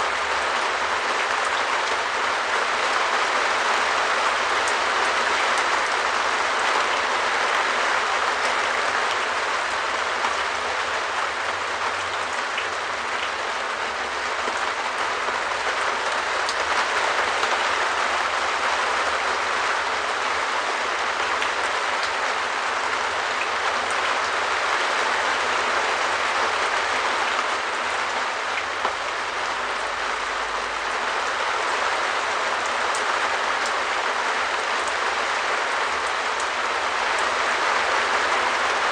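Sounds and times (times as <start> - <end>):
rain on a shed roof: 0.0 - 38.9.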